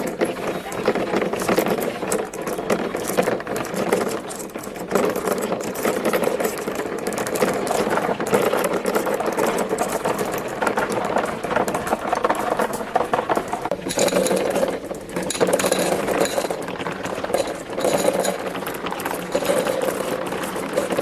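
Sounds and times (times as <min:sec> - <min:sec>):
marbles rolling down plastic track: 0:00.0 - 0:21.0.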